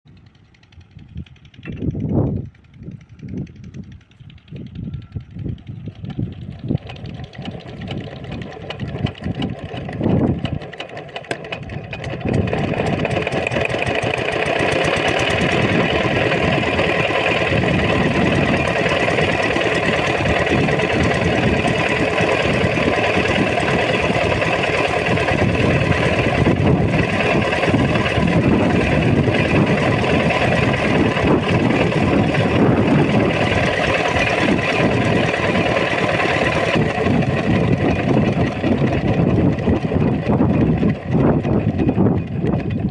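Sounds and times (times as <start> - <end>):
diesel engine starting and running: 0.1 - 42.9.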